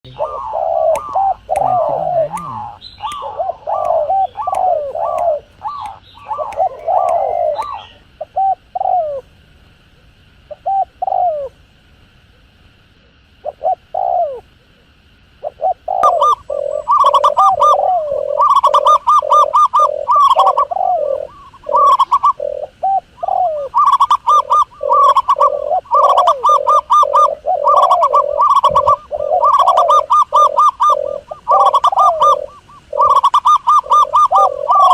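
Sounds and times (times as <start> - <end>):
doves cooing: 0.0 - 9.4, 10.0 - 11.6, 12.3 - 34.9.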